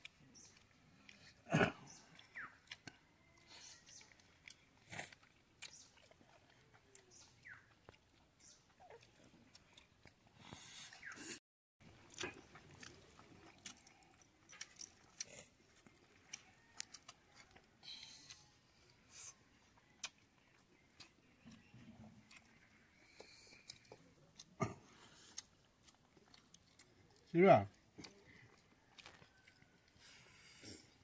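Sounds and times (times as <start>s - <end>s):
people chewing and eating: 0.0s - 31.0s.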